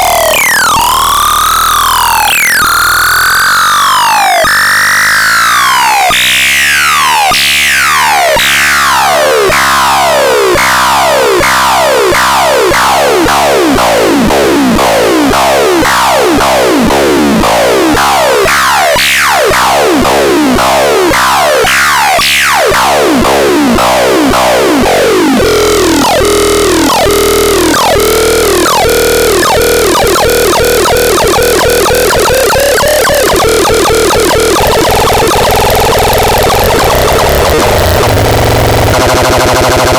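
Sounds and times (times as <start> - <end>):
buzzy synthesized tones: 7.4 - 39.9.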